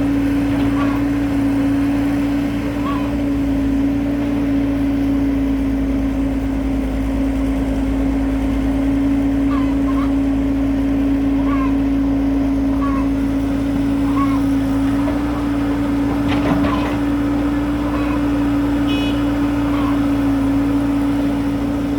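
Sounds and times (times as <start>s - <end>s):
excavator diesel engine droning: 0.0s - 21.9s.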